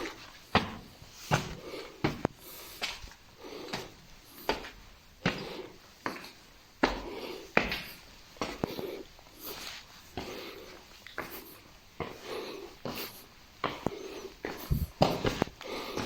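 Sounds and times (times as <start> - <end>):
footsteps on stone floor echoing: 0.0 - 16.0.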